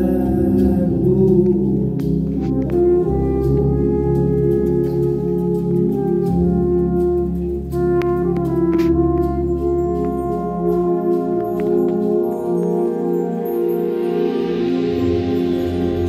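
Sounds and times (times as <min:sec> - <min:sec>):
brass ensemble playing chords: 0:00.0 - 0:16.0.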